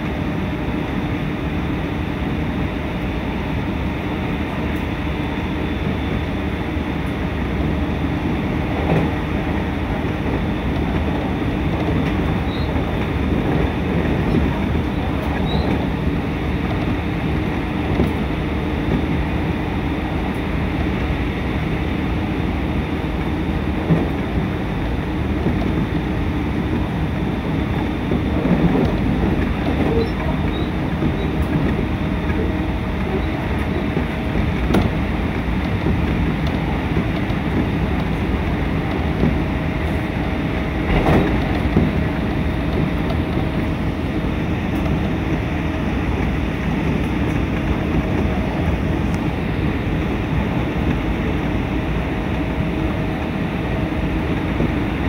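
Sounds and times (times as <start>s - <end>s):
train rumbling and rattling: 0.0s - 55.0s.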